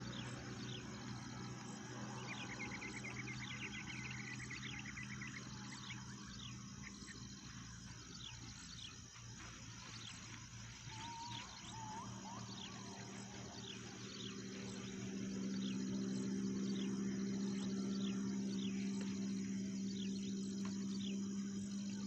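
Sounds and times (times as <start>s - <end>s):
birds chirping: 0.0s - 22.0s
high insect drone: 0.0s - 22.0s
low hum: 0.0s - 22.0s.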